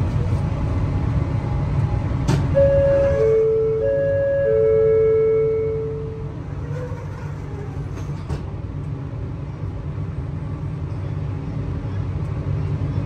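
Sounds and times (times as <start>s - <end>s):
train humming and rumbling: 0.0s - 13.0s.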